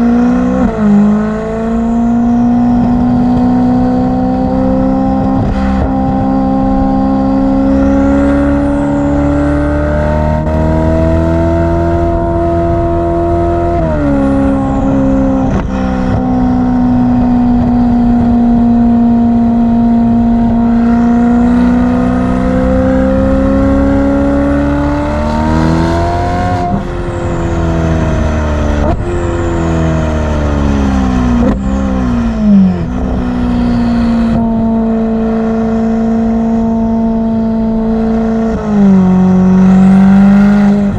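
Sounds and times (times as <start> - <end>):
sports car engine revving: 0.0 - 40.9.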